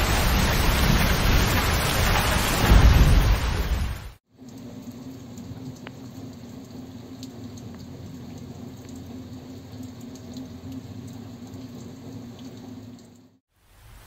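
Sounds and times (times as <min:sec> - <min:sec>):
light rain pattering: 0:00.0 - 0:14.0.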